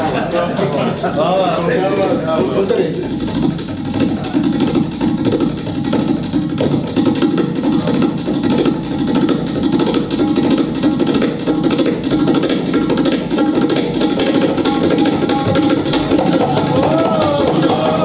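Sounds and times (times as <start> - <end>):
tabla fast strokes: 0.0 - 18.0.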